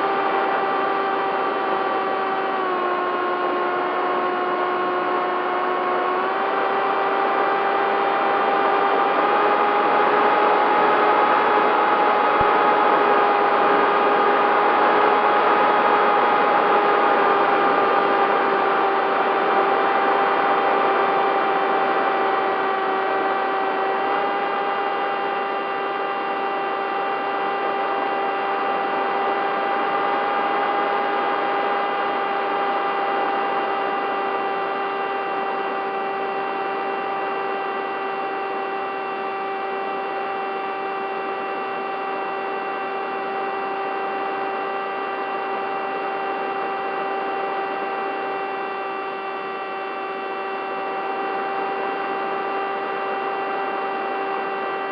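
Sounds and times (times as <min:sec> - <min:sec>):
model plane motor whine: 0:00.0 - 0:54.9.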